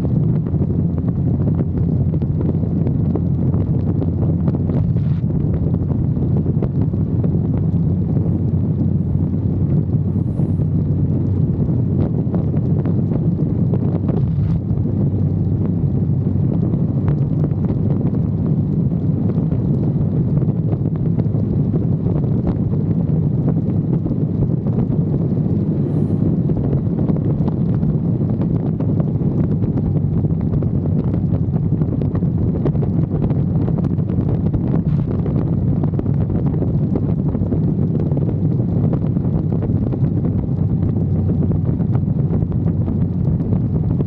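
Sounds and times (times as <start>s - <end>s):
motorcycle engine drone: 0.0s - 44.0s
wind buffeting microphone: 0.0s - 44.0s.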